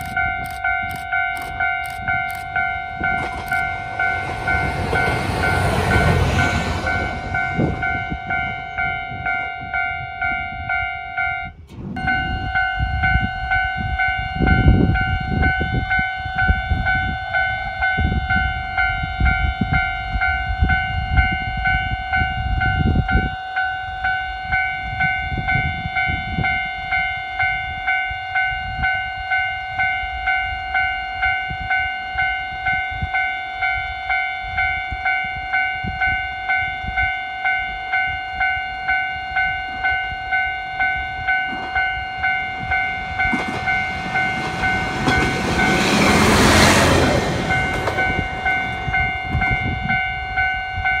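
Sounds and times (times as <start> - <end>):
level crossing bell ringing: 0.0 - 19.1, 26.5 - 51.0
railcar engine and wheels passing: 0.0 - 51.0.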